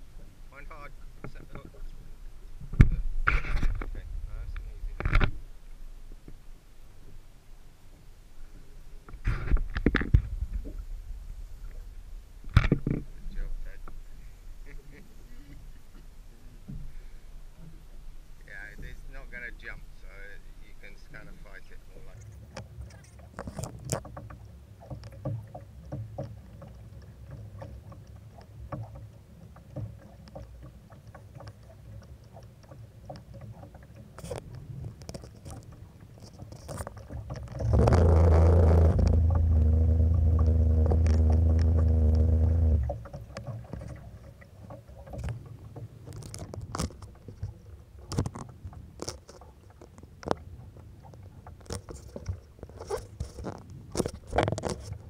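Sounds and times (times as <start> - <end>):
small waves slapping hull: 0.0 - 55.0.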